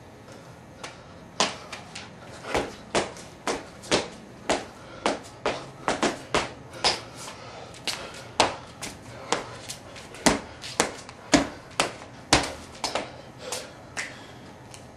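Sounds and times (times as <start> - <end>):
feet landing on concrete: 0.8 - 14.8.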